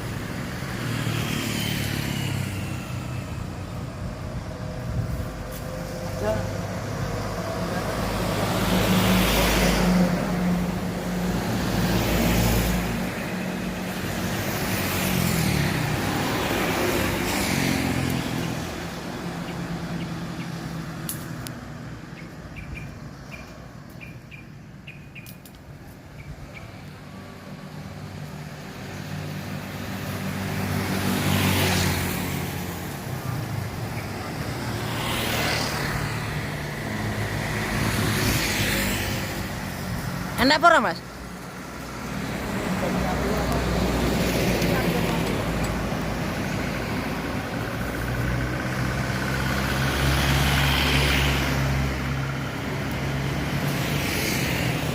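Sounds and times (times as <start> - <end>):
motor vehicles passing: 0.0 - 54.9.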